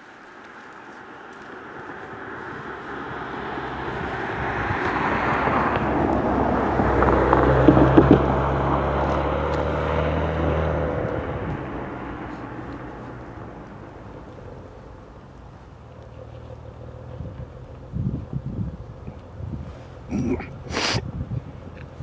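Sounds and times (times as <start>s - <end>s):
locomotive engine drone: 0.0s - 22.0s.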